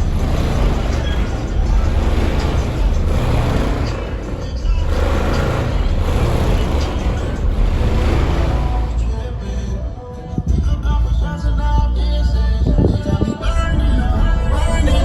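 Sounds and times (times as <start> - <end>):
bass-heavy music through subwoofers: 0.0 - 15.0.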